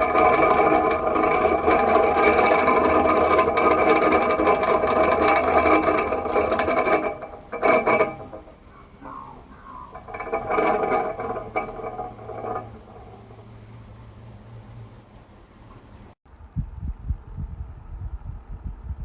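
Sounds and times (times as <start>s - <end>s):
electric fan motor whirring: 0.0s - 19.0s.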